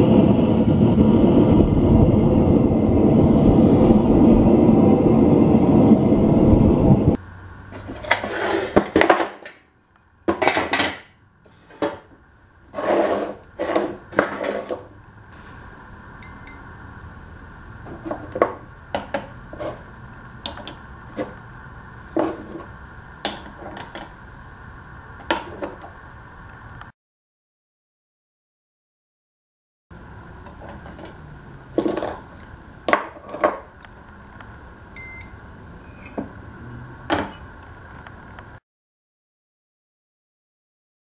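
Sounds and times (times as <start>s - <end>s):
loud steady roar: 0.0s - 9.0s, 9.7s - 26.9s, 29.9s - 38.6s
faint steady hum: 0.0s - 26.9s, 30.0s - 38.6s.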